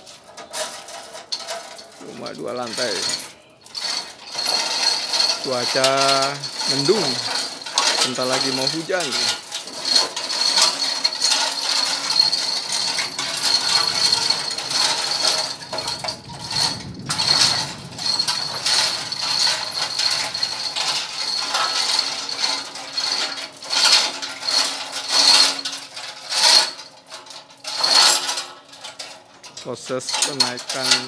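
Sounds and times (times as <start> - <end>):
steel chain rattling through hoist: 0.0 - 31.0.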